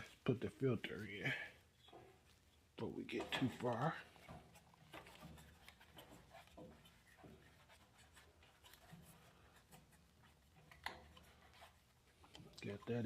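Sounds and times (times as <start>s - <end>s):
faint scratching: 0.0s - 13.0s.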